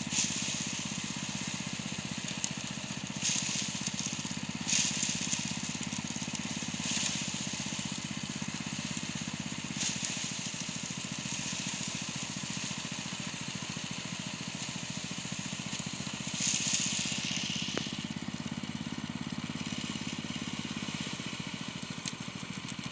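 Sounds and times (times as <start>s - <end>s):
small engine running steadily: 0.0s - 22.9s.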